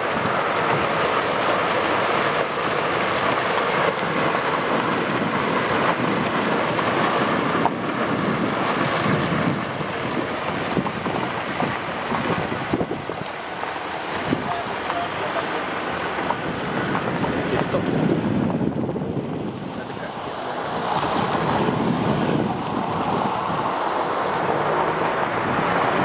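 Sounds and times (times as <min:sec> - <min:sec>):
truck driving past: 0:00.0 - 0:26.0
wind buffeting microphone: 0:00.0 - 0:26.0.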